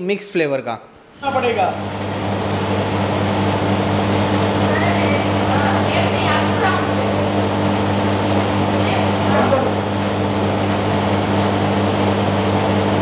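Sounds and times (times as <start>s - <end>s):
ice cream machine humming: 1.0s - 13.0s.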